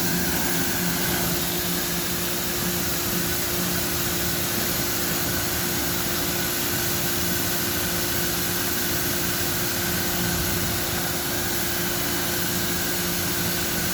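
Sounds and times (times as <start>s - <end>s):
pressure washer pump humming: 0.0s - 13.9s.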